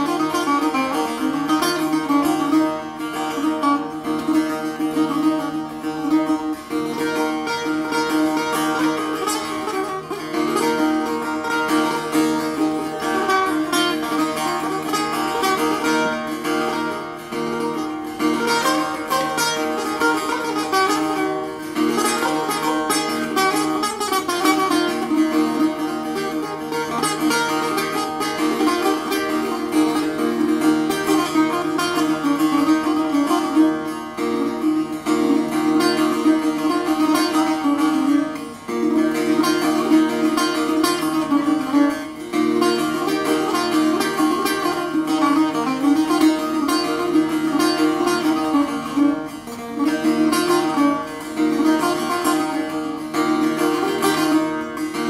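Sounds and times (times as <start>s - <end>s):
long-necked lute plucked notes: 0.0s - 55.0s.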